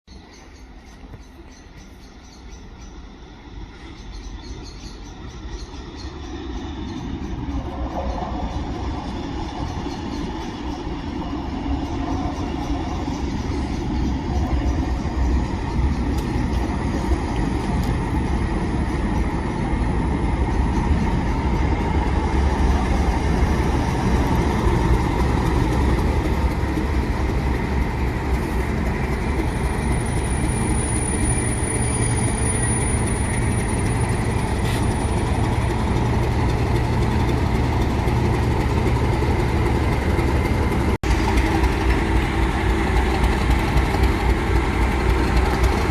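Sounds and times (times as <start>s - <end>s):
diesel locomotive engine running: 0.1s - 45.9s.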